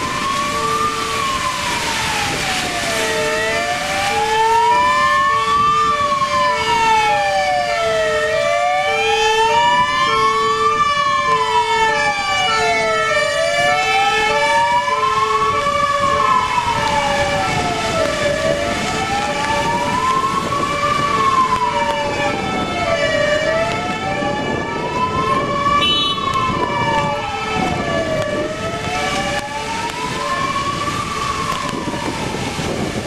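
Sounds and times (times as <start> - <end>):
electronic wail siren: 0.0 - 33.0
two-tone hi-lo siren: 0.0 - 33.0.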